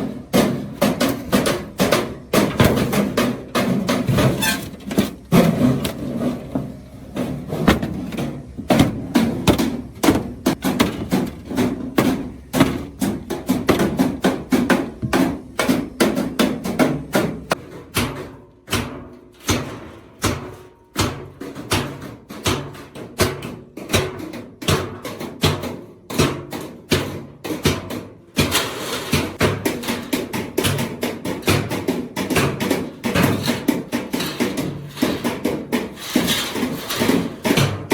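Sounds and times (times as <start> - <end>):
hammer blows on sheet steel: 0.0 - 37.9.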